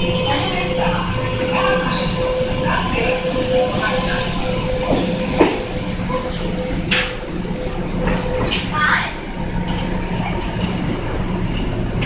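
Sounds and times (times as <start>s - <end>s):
train running hum: 0.0s - 12.0s.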